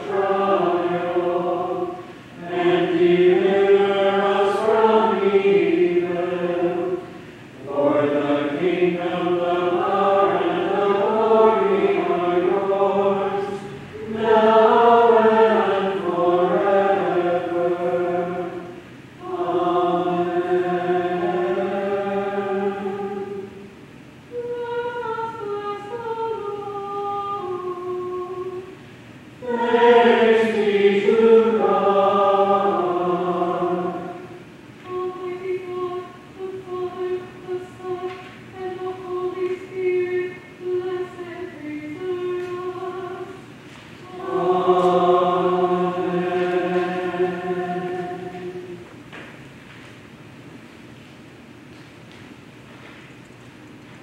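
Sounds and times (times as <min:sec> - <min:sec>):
church choir singing: 0:00.0 - 0:23.7, 0:24.3 - 0:48.9.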